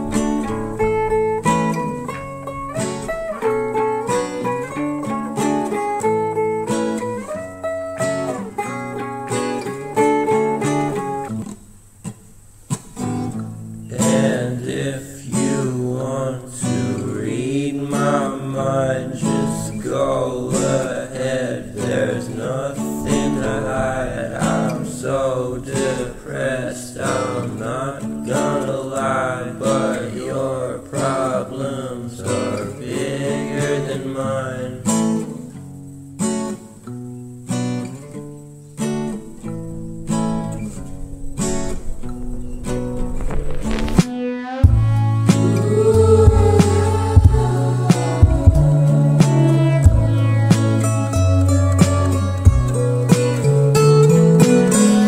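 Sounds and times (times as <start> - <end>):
song with strummed acoustic guitar: 0.0 - 55.0.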